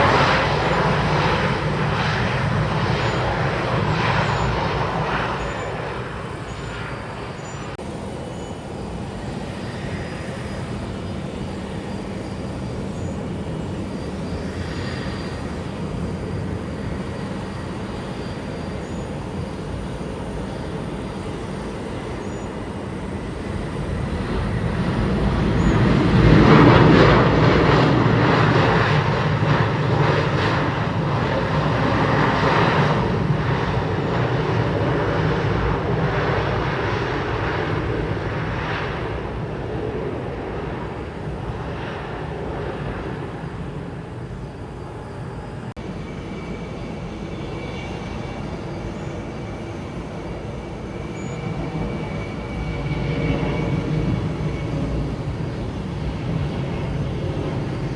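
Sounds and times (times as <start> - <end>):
jet airliner engines: 0.0 - 57.9.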